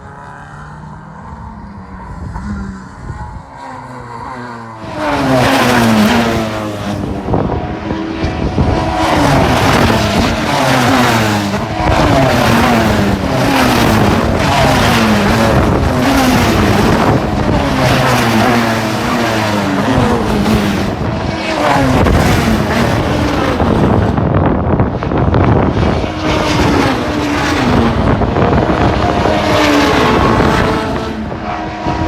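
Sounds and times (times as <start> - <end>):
race cars passing by: 0.0 - 32.0.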